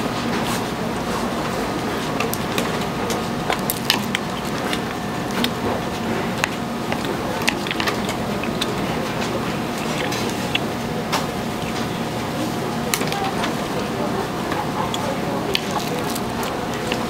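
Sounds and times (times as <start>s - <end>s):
market stall background noise: 0.0s - 17.0s.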